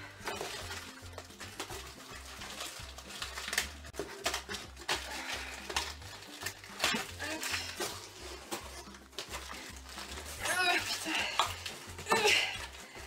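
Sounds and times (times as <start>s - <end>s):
plastic wrap and cardboard rustling: 0.0s - 13.0s
quiet background music: 0.0s - 13.0s.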